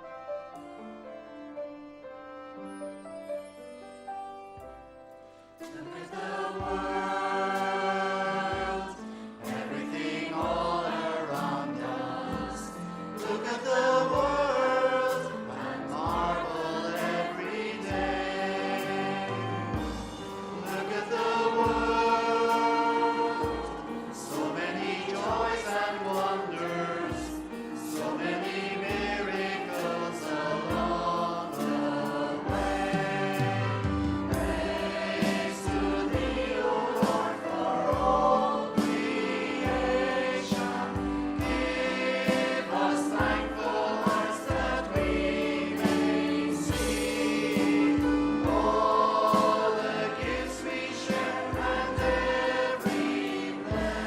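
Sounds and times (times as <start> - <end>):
praise band playing: 0.0 - 54.0
group singing worship songs: 5.6 - 54.0.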